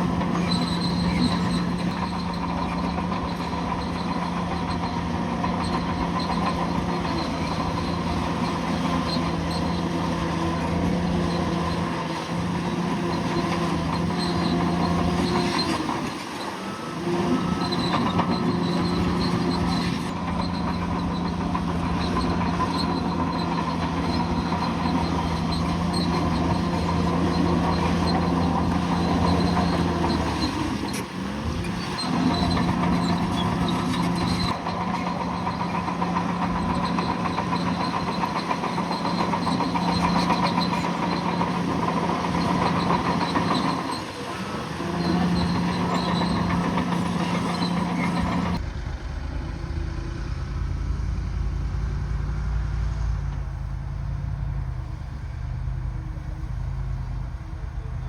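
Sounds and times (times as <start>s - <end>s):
bulldozer diesel engine: 0.0s - 58.0s
tracks squeaking and clanking: 0.0s - 58.0s.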